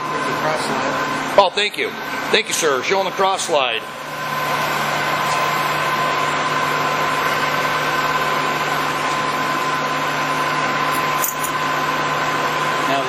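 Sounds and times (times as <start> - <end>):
lathe running with mechanical whine: 0.0 - 13.0.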